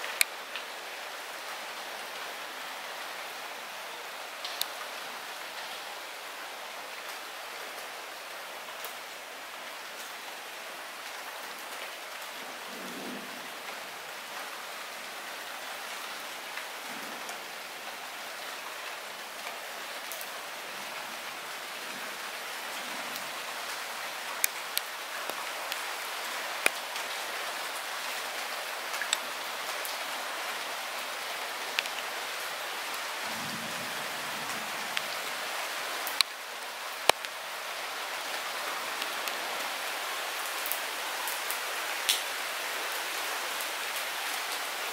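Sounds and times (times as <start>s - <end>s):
light rain falling: 0.0s - 44.9s.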